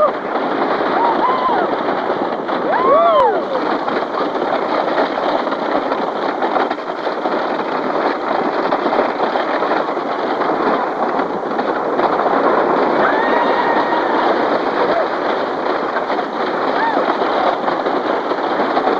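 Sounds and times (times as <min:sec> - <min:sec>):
roller coaster rumbling and clattering: 0:00.0 - 0:18.9.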